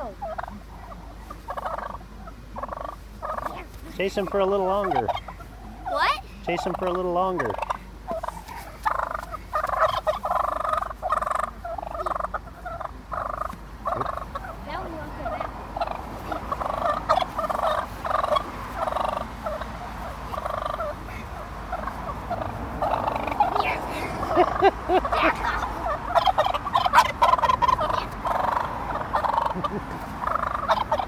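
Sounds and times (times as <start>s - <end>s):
wild turkeys calling: 0.0s - 31.0s.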